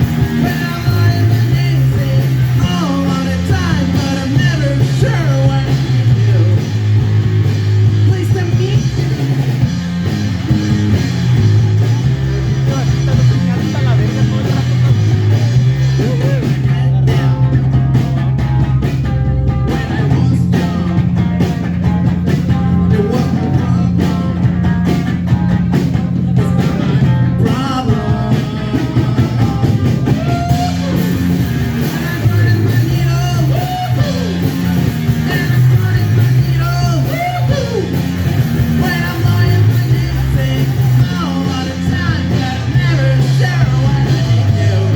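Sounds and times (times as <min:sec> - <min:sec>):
person singing: 0:00.0 - 0:06.8, 0:10.9 - 0:44.9
bass line: 0:00.0 - 0:44.9
drums: 0:00.0 - 0:44.9
electric guitar: 0:00.0 - 0:44.9.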